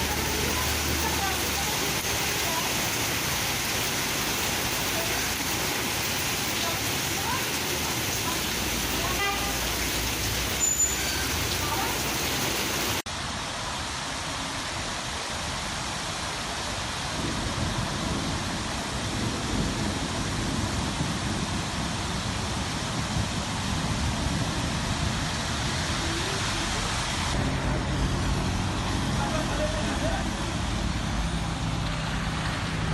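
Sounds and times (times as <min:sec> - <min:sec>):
steady rain falling: 0:00.0 - 0:32.9
traffic on wet streets: 0:00.0 - 0:32.9.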